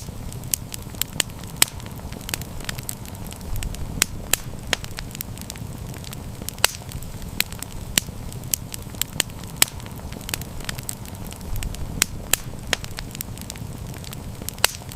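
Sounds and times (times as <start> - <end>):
wood campfire crackling: 0.0 - 14.9.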